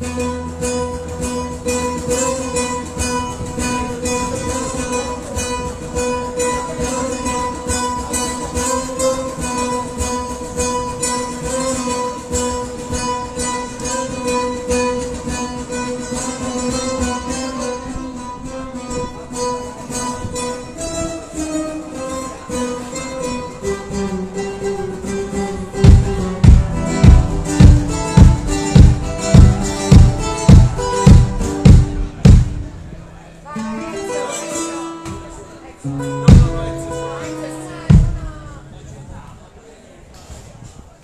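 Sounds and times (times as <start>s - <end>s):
acoustic guitar strummed fast: 0.0s - 38.8s.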